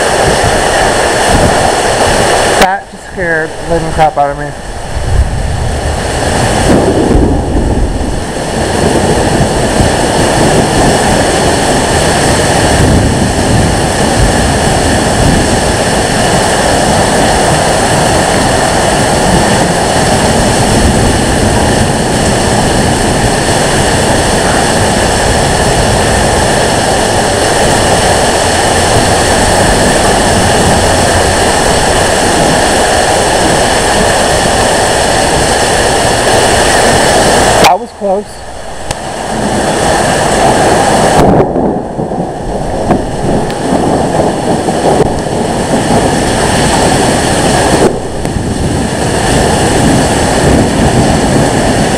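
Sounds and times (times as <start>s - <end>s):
gusts buffeting microphone: 0.0s - 51.9s
heavy rain: 0.0s - 51.9s
roaring wind: 0.0s - 51.9s.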